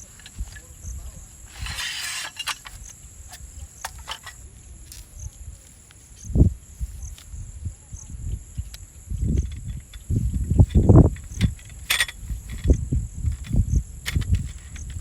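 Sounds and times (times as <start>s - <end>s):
faint insect chirps: 0.0s - 15.0s
insects droning: 0.0s - 15.0s.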